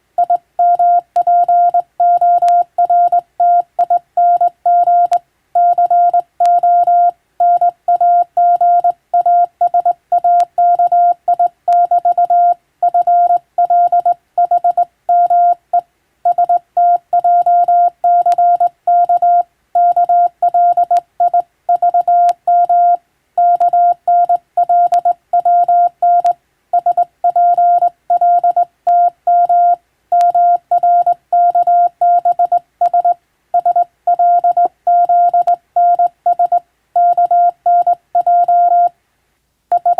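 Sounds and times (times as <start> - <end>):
morse code tone: 0.2 - 15.6, 16.3 - 38.9.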